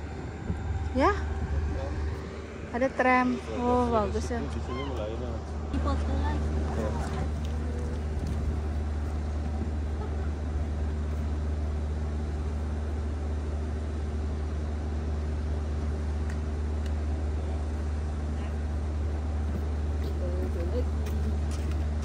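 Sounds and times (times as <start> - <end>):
faint outdoor noise: 0.0 - 22.0
low machine hum: 0.0 - 22.0.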